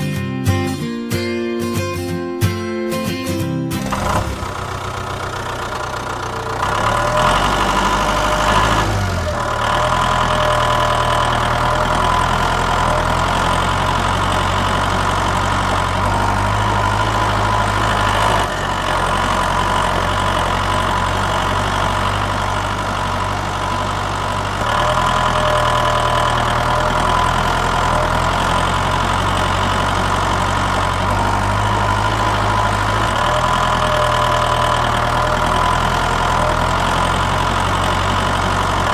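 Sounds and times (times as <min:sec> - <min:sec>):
engine idling: 0:03.7 - 0:38.9.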